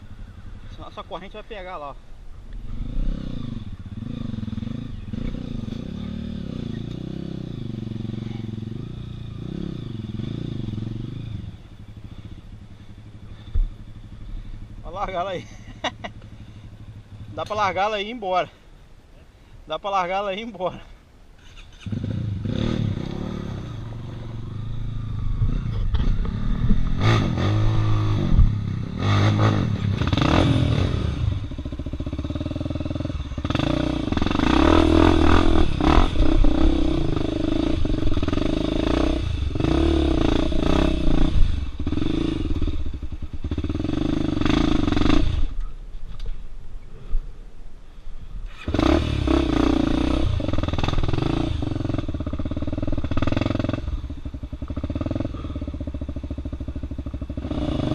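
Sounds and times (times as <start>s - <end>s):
motorcycle engine revving: 2.5s - 18.1s, 21.4s - 45.7s, 48.5s - 57.9s.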